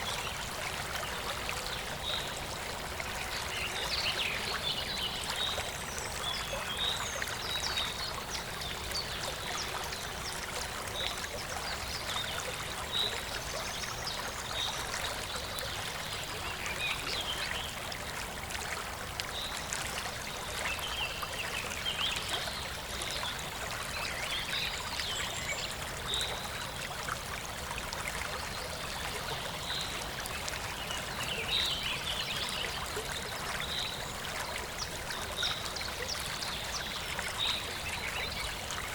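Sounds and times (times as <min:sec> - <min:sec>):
running water stream: 0:00.0 - 0:38.9.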